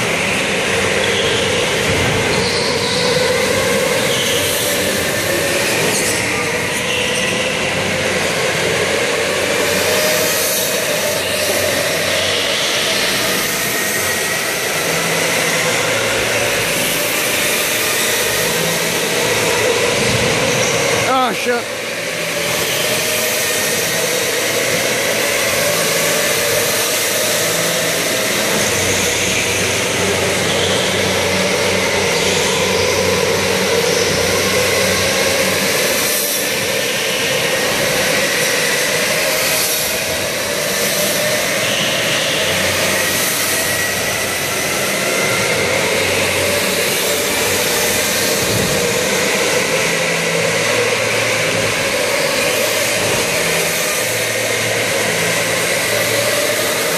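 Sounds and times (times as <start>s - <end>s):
electric go-kart motors whining: 0.0s - 56.9s.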